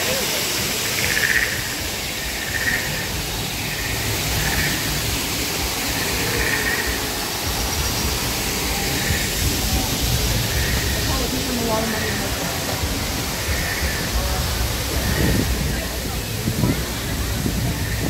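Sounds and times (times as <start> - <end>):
waterfalls splashing into pool: 0.0 - 18.0
low uneven rumble: 0.1 - 18.0.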